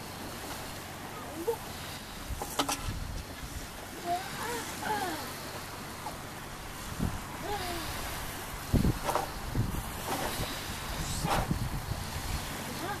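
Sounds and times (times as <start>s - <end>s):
choppy lake water: 0.0s - 13.0s
wind rumbling on microphone: 0.0s - 13.0s.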